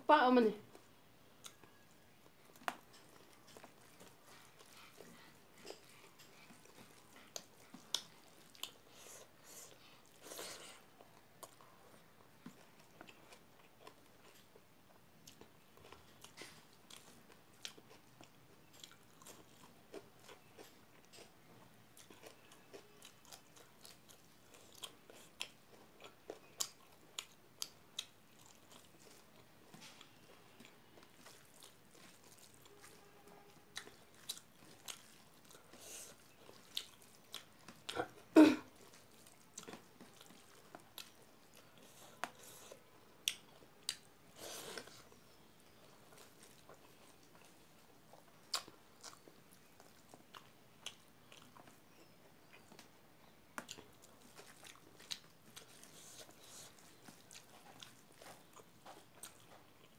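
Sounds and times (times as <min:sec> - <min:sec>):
chewing rice: 0:00.7 - 0:59.9.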